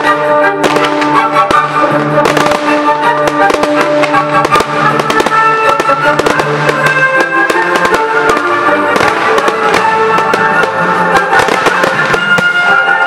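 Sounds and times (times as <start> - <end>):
film music: 0.0 - 13.0
firework bangs and pops: 0.0 - 13.0.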